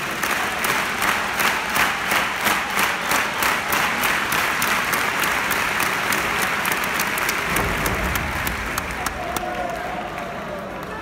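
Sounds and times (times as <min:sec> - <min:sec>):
crowd clapping in unison: 0:00.0 - 0:11.0
crowd noise: 0:00.0 - 0:11.0.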